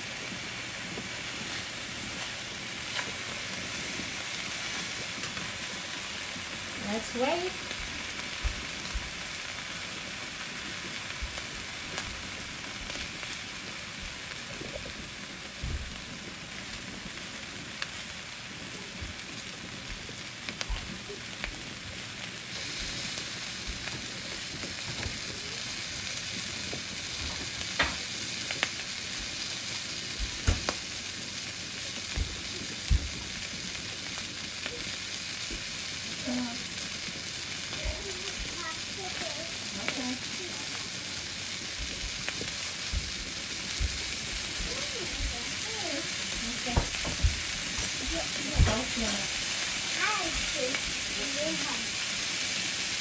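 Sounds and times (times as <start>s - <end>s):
sausages sizzling in a pan: 0.0s - 53.0s.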